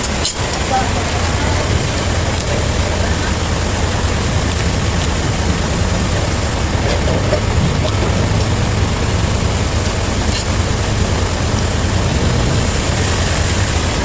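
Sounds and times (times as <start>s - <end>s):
sawmill machinery drone: 0.0s - 14.0s.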